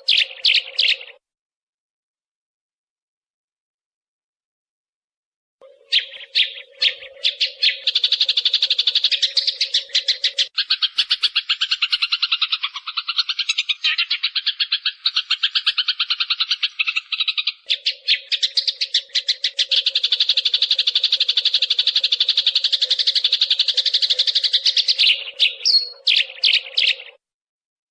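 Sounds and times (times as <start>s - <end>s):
sparrow chirps: 0.0s - 1.2s, 5.6s - 27.2s.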